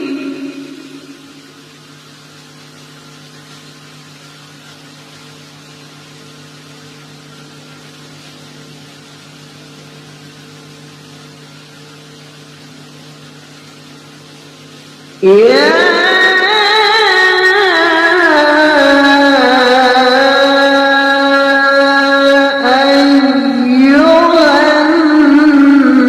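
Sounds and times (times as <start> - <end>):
low hum with hiss: 0.0 - 26.0.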